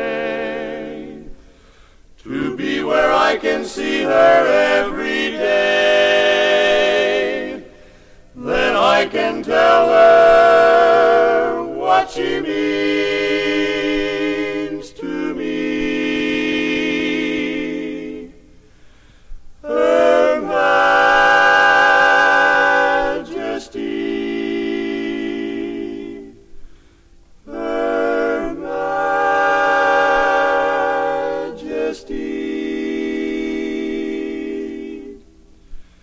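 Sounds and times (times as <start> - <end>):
men singing close harmony: 0.0 - 1.4, 2.2 - 7.7, 8.4 - 18.4, 19.6 - 26.4, 27.5 - 35.2.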